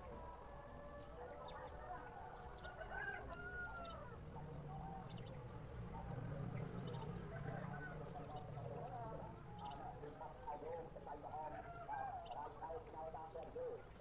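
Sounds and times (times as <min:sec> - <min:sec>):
birds chirping and calling: 0:00.0 - 0:14.0
low hum: 0:02.5 - 0:14.0.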